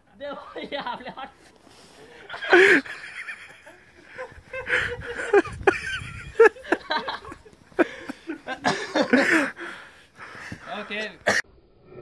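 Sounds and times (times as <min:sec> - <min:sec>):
people laughing: 0:00.2 - 0:11.4.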